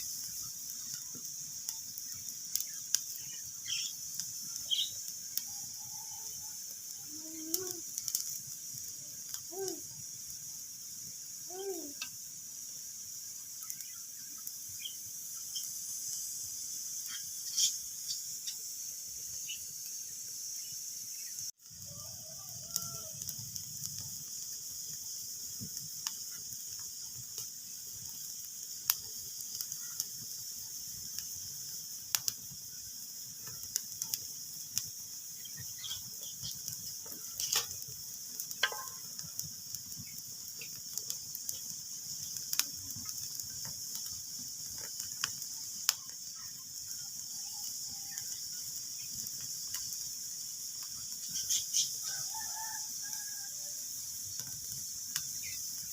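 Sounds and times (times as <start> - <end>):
burning wood squealing: 0.0 - 55.9
wood fire crackling: 0.0 - 55.9.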